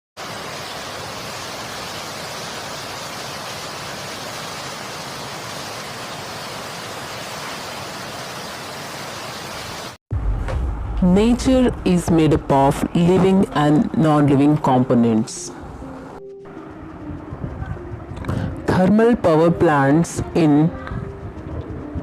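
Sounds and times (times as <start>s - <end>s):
steady rushing noise: 0.2s - 14.6s, 15.5s - 22.0s.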